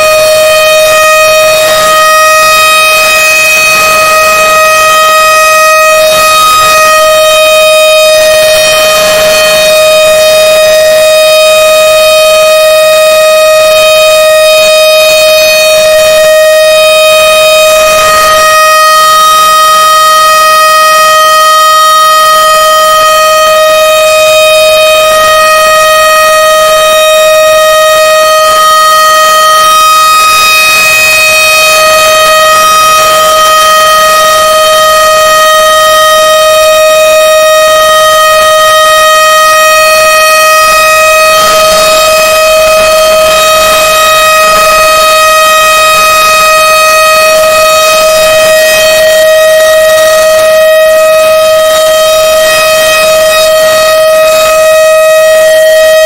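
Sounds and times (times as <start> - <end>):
steady alarm tone: 0.0 - 56.0.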